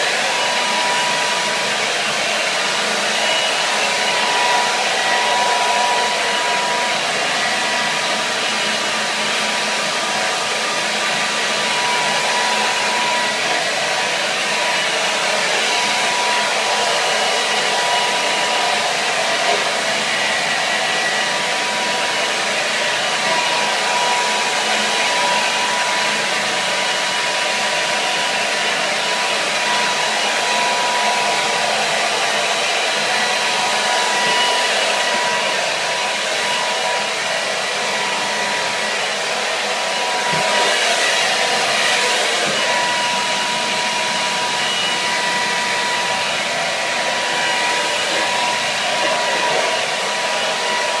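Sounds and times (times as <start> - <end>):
hair dryer running: 0.0 - 51.0.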